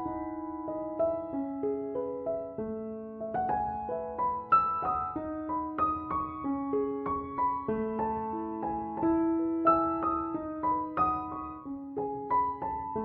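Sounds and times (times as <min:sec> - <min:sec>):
piano melody: 0:00.0 - 0:13.0.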